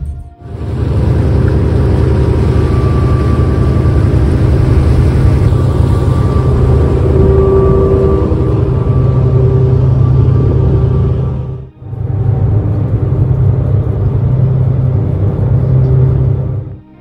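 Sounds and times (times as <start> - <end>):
ferry engine rumble: 0.0 - 17.0
water noise: 0.4 - 16.8
faint steady whine: 0.4 - 17.0.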